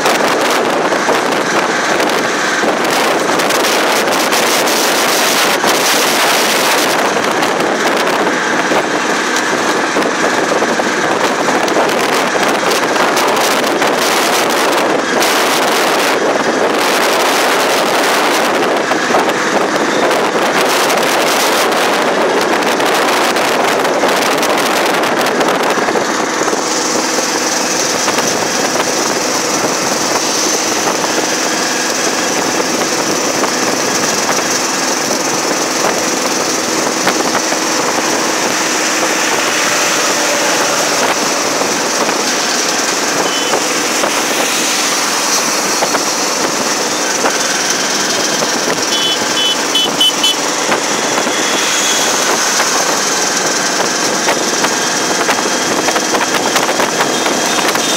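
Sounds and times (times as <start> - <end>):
small engine running: 0.0 - 57.9
wind rushing across microphone: 0.0 - 57.9.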